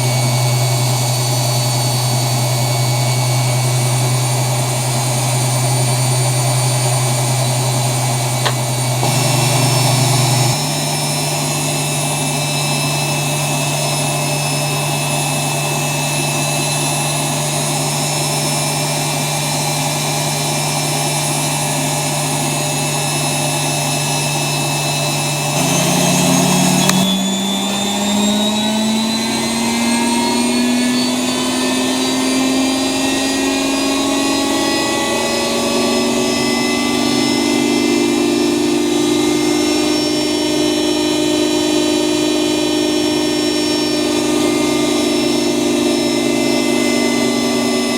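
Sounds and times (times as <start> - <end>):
washing machine motor whine: 0.0 - 47.9.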